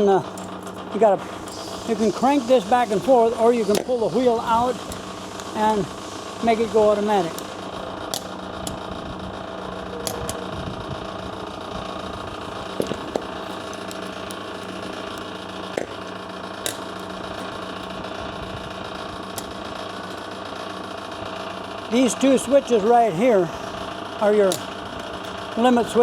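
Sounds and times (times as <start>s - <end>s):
grinder motor and hydraulic hum: 0.0s - 26.0s
sharp clicks: 0.2s - 20.4s, 23.8s - 25.6s.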